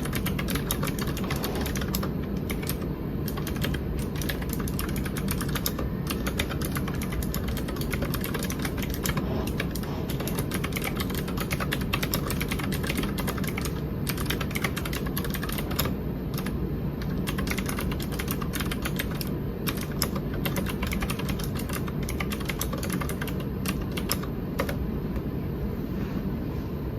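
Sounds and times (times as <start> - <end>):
low background hum: 0.0 - 26.9.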